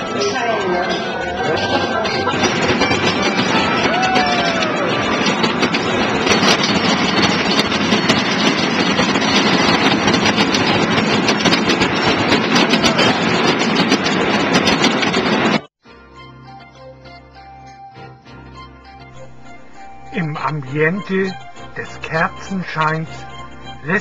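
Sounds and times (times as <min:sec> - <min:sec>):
fairground ride mechanical rumble: 0:00.0 - 0:15.7, 0:18.8 - 0:24.0
rattles and clicks: 0:00.0 - 0:15.7, 0:19.2 - 0:24.0.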